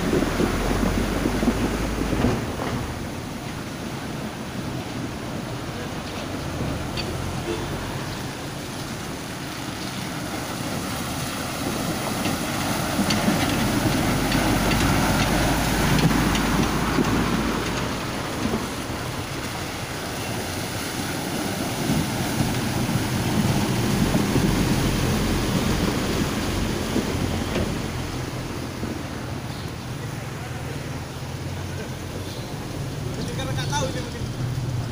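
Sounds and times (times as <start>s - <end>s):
truck engine rumble: 0.0s - 34.9s
tyres hissing through water: 0.0s - 34.9s.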